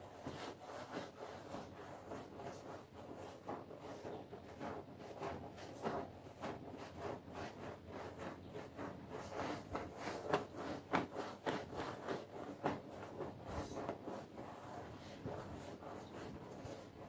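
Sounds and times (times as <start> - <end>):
scraping strokes on carpet: 0.0 - 17.0.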